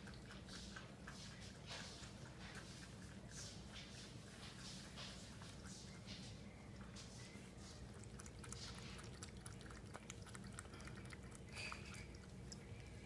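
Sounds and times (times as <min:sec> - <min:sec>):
cat lapping water: 0:00.0 - 0:13.0
low steady hum: 0:00.0 - 0:13.0.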